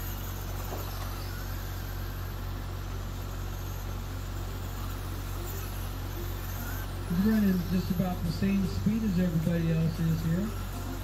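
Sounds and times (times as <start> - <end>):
constant low hum: 0.0 - 11.0
radio-controlled cars racing: 0.0 - 11.0.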